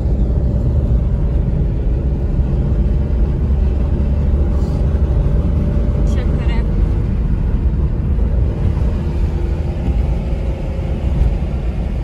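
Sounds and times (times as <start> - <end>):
car driving at speed: 0.0 - 12.0.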